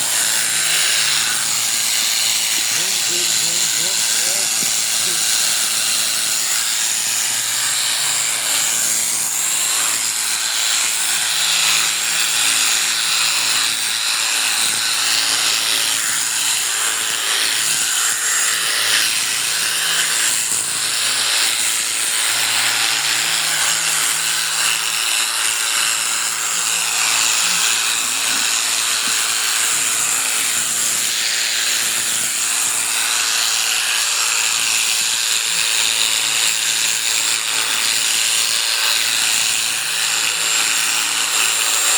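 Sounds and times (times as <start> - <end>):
electric clippers cutting fleece: 0.0 - 41.9.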